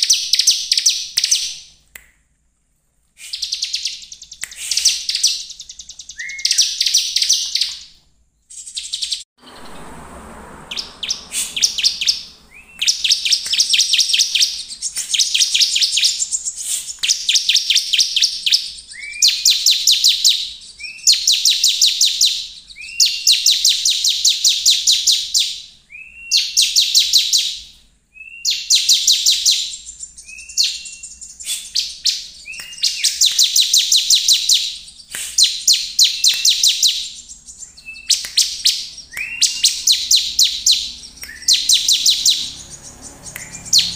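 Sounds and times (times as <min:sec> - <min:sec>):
bird song of high chip notes: 0:03.4 - 0:27.6, 0:28.2 - 0:43.9.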